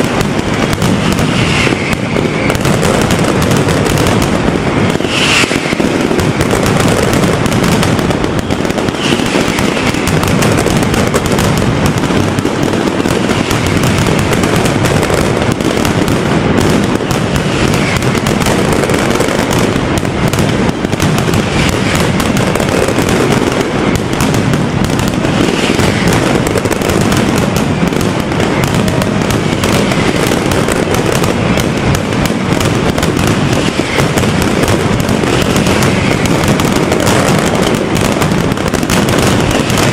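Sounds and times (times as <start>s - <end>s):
firecrackers banging: 0.0s - 39.9s
firework whistles: 0.0s - 39.9s.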